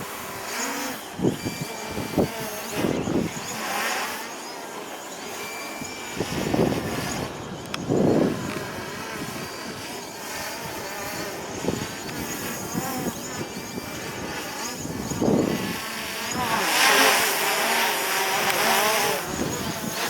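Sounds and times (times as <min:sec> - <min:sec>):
wind buffeting microphone: 0:00.0 - 0:03.8, 0:05.8 - 0:16.7, 0:18.3 - 0:20.0
drone propellers whining: 0:00.0 - 0:20.0.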